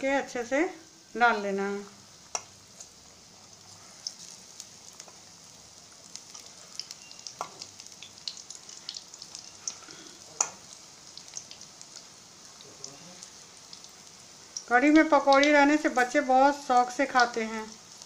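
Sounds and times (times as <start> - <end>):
food deep-frying in oil: 0.0 - 18.0
oil crackling: 2.1 - 18.0.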